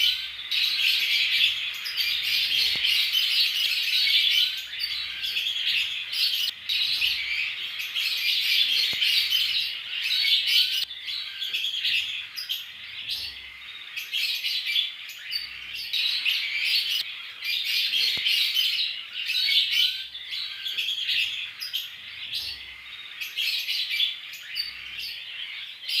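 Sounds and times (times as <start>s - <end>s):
lovebirds chattering: 0.0s - 26.0s.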